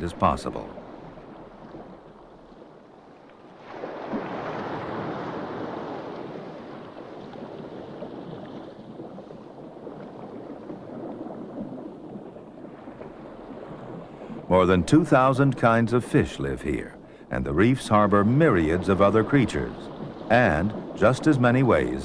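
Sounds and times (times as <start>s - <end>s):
surf water washing: 0.0s - 22.0s.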